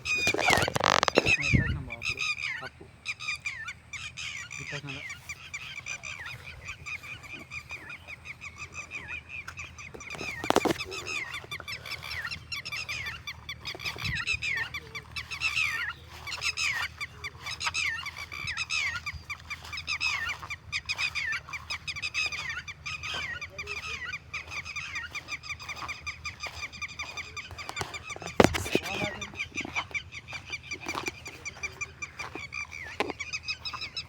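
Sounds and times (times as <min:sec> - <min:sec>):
flock of birds calling: 0:00.0 - 0:34.0.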